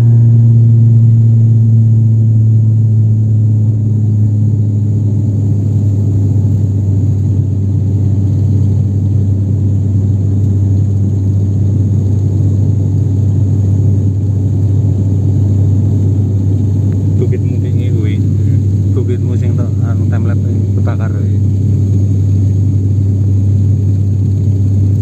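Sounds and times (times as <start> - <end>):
propeller engine drone: 0.0 - 25.0.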